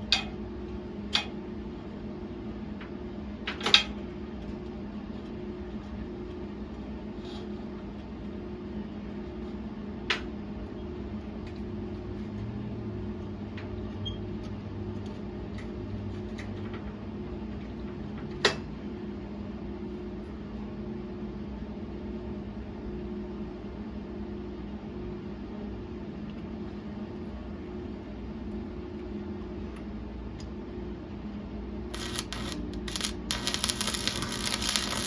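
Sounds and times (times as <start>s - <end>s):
electrical machine hum: 0.0s - 35.0s.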